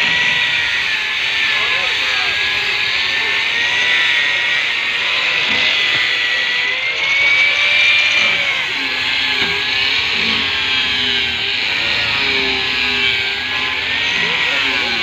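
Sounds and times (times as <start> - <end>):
electric grinder whining: 0.0 - 15.0.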